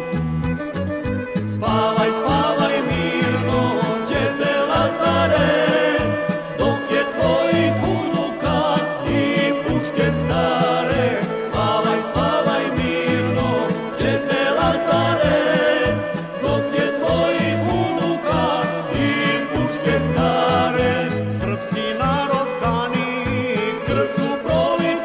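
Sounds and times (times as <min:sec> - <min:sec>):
instrumental accompaniment with bass beat: 0:00.0 - 0:25.0
folk singing: 0:01.5 - 0:25.0.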